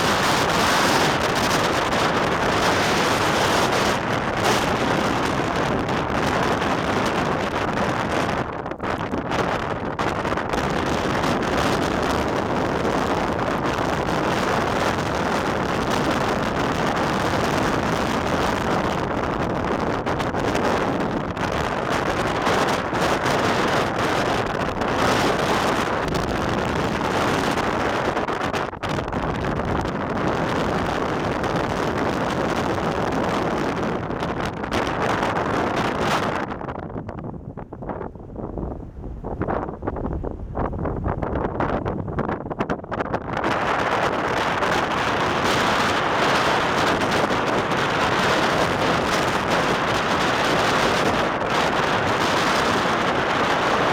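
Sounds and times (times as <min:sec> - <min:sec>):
rough lake water: 0:00.0 - 0:53.9
strong wind buffeting microphone: 0:00.0 - 0:53.9.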